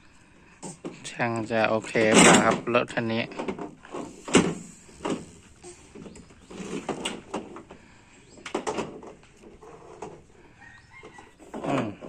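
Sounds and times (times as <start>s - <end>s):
plastic toy knocking and scraping: 0.8s - 10.3s, 10.9s - 12.0s.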